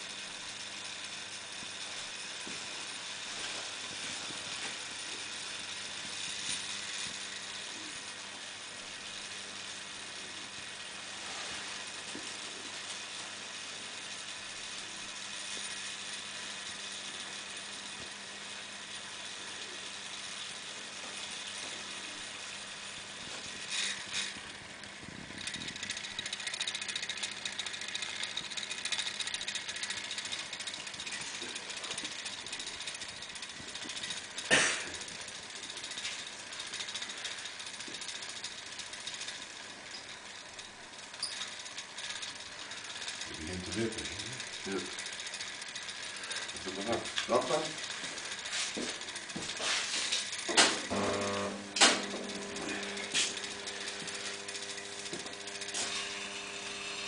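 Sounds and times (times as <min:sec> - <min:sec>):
arc lamp crackling hiss: 0:00.0 - 0:57.0.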